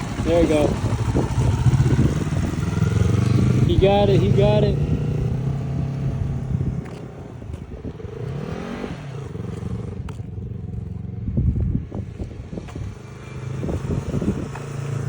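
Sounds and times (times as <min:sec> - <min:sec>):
motorcycle engine revving: 0:00.0 - 0:15.0
wind buffeting microphone: 0:00.0 - 0:15.0.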